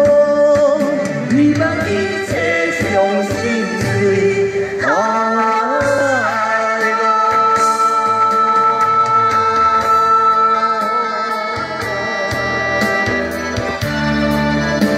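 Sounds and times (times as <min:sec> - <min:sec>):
man and woman singing duet: 0:00.0 - 0:13.3
backing music: 0:00.0 - 0:14.9.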